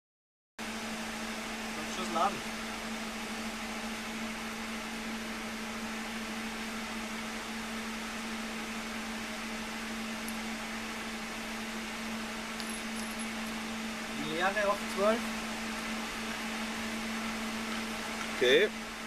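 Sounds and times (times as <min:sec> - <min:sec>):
machine hum with hiss: 0:00.6 - 0:19.0.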